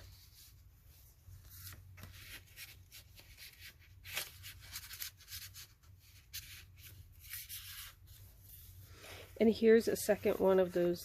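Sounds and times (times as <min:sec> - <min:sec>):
paper rustling and rubbing: 0:00.0 - 0:09.0.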